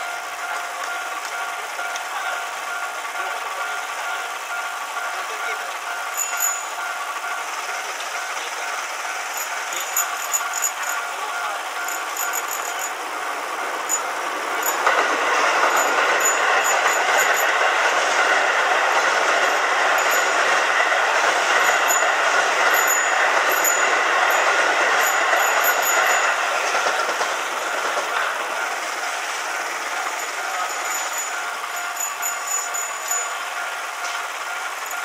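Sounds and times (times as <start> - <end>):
electric train passing: 0.0 - 35.0
level crossing warning bell: 0.0 - 35.0.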